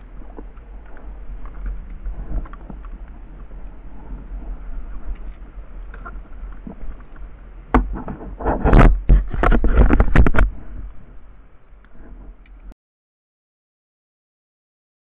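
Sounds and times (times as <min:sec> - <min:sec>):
wind rumble on microphone: 0:00.0 - 0:12.7.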